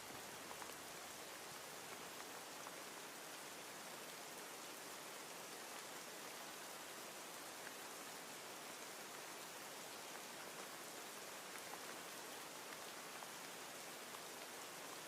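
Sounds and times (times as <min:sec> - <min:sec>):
soft rain hissing: 0:00.0 - 0:15.0.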